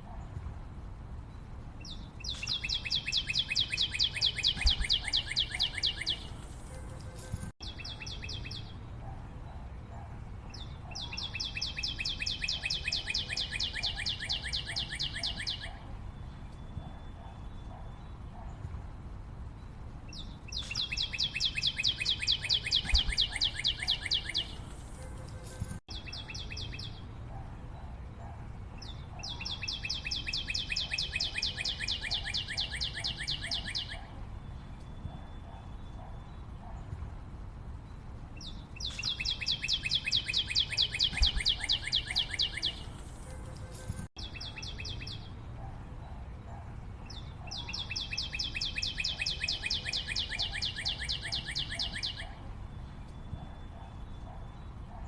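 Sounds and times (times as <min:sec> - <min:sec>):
bird singing rapid trills: 0:01.3 - 0:09.1, 0:10.5 - 0:18.4, 0:19.6 - 0:27.4, 0:28.3 - 0:36.7, 0:38.4 - 0:45.6, 0:47.0 - 0:54.9.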